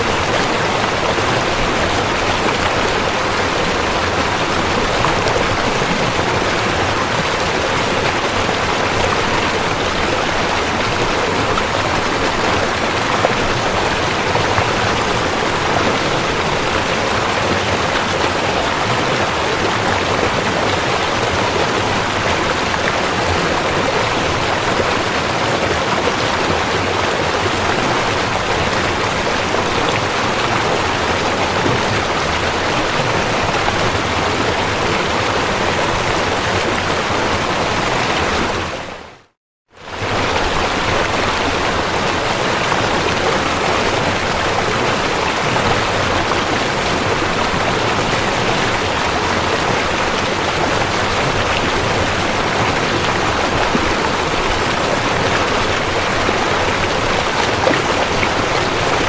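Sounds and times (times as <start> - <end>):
rushing river water: 0.0 - 59.0.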